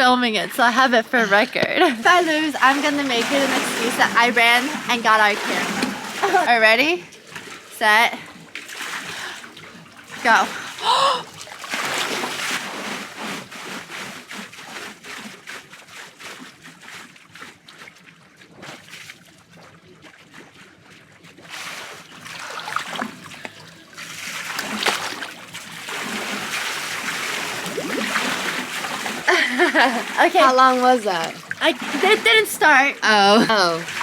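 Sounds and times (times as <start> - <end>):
hot tub water splashing: 0.0 - 34.0.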